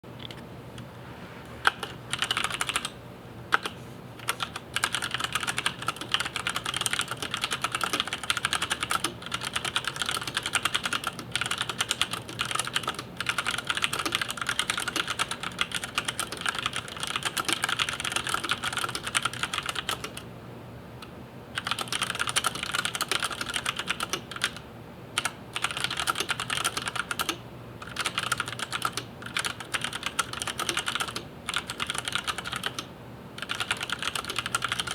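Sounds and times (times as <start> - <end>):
faint steady hum: 0.0 - 34.9
mechanical keyboard typing: 1.6 - 20.2, 21.6 - 24.6, 25.2 - 34.9.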